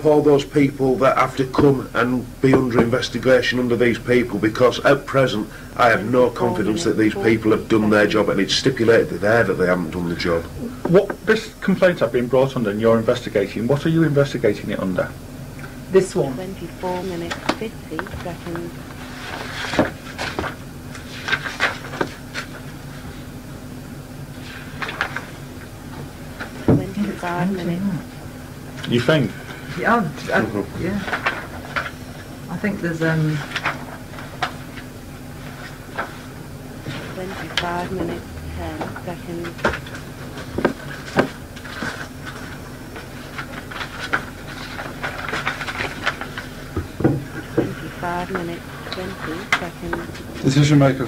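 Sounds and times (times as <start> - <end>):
steady low hum: 0.0 - 51.0
tape hiss: 0.0 - 51.0.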